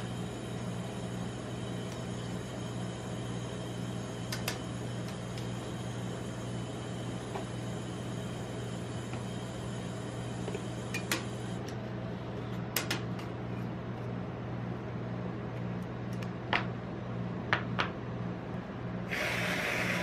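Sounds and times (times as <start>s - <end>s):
refrigeration unit humming: 0.0s - 20.0s.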